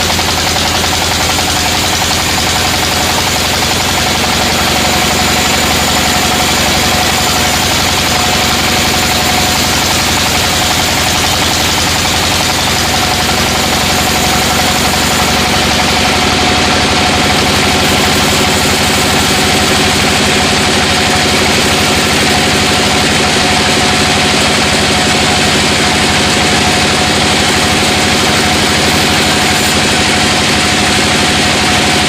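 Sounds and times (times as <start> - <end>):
constant machine whine: 0.0 - 32.0
sawmill machinery drone: 0.0 - 32.0.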